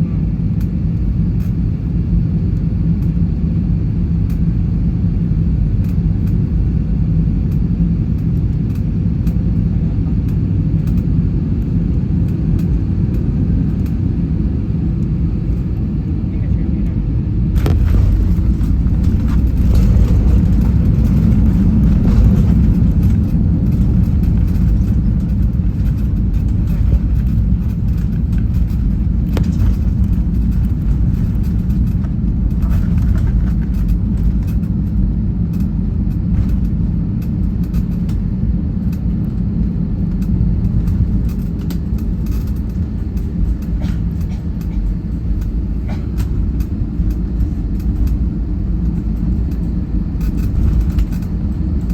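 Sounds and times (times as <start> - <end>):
airliner engines rumbling in cabin: 0.0 - 51.9.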